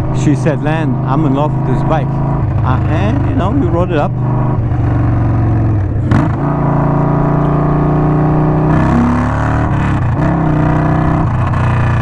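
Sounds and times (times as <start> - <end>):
motorcycle engine through loud exhaust: 0.0 - 12.0.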